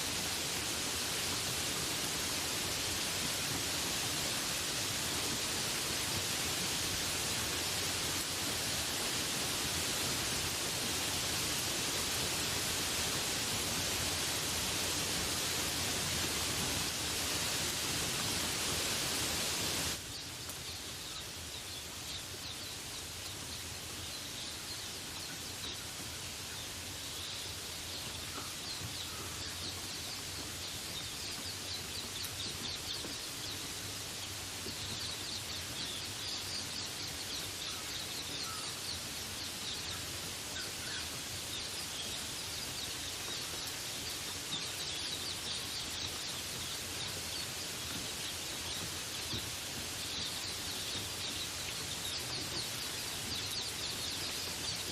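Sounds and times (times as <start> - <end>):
rain hiss: 0.0 - 54.9
birds chirping: 0.3 - 54.9.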